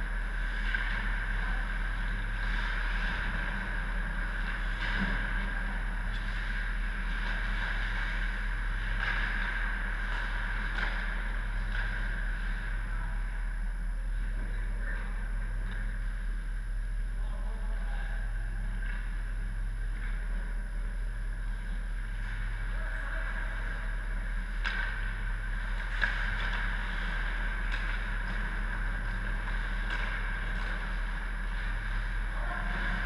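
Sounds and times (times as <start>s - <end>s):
low machinery hum: 0.0s - 33.0s.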